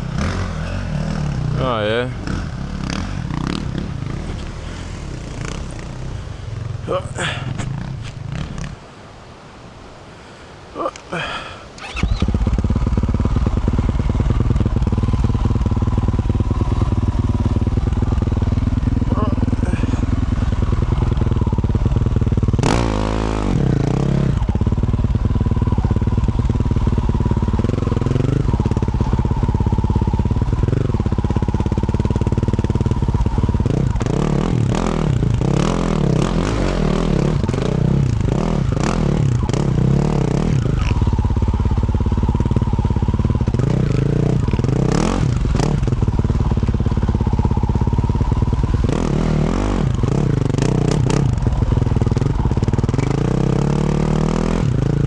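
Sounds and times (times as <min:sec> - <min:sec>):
dirt bike engine revving: 0:00.0 - 0:09.0, 0:11.2 - 0:55.0.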